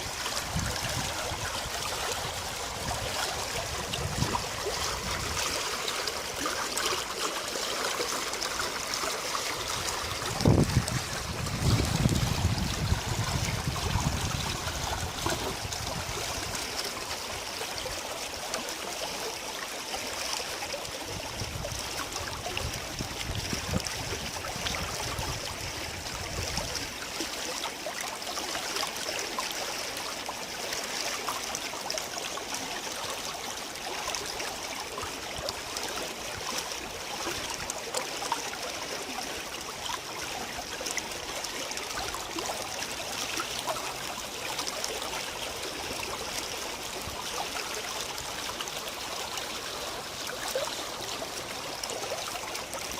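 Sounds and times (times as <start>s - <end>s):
stream flowing over rocks: 0.0s - 52.9s.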